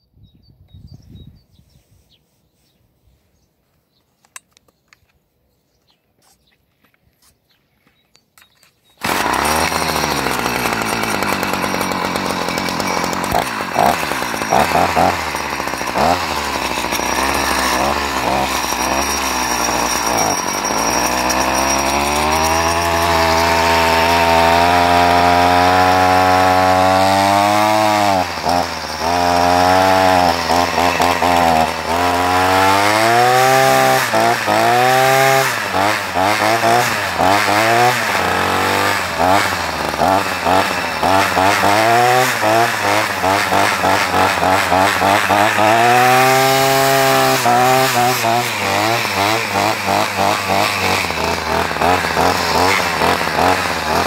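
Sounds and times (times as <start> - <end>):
brush cutter engine revving: 9.0 - 54.0.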